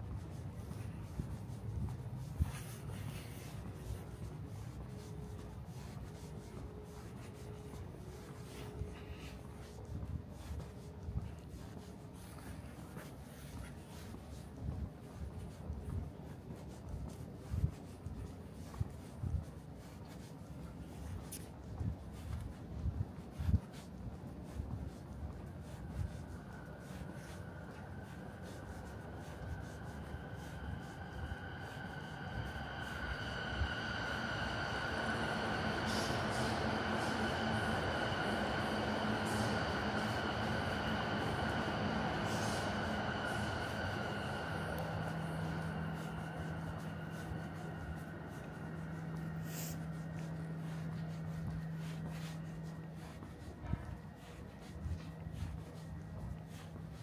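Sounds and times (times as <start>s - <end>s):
low train rumble: 0.0s - 57.0s
steady low hum: 0.0s - 57.0s
train high whine: 0.0s - 57.0s.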